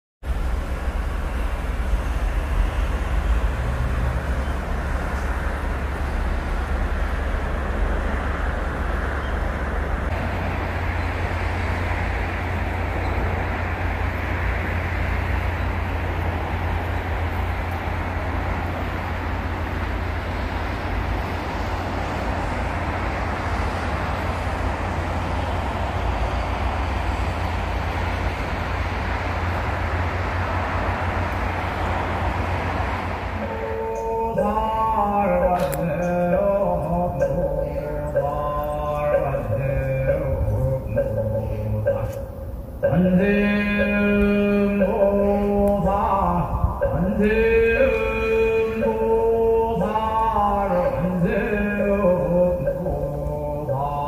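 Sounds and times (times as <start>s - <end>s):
city traffic rumble: 0.2s - 54.0s.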